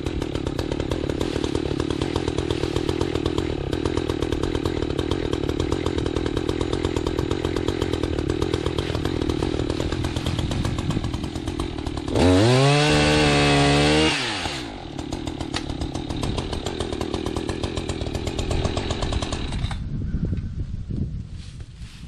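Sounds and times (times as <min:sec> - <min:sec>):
chainsaw idling and revving: 0:00.0 - 0:19.9.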